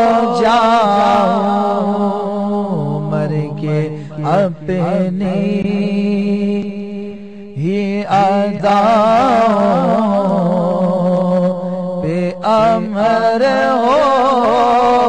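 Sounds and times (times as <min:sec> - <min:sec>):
man singing into microphone: 0:00.0 - 0:15.0.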